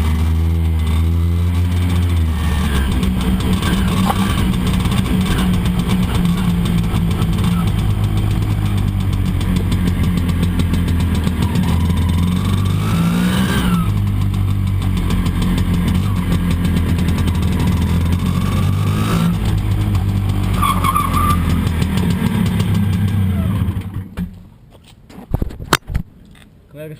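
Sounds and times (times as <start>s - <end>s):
scooter engine accelerating: 0.0s - 24.2s.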